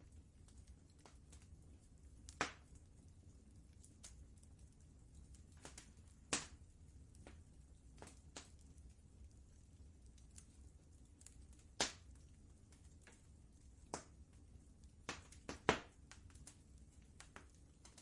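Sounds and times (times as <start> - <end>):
faint low rumble: 0.0 - 18.0
wood fire crackling: 0.0 - 18.0.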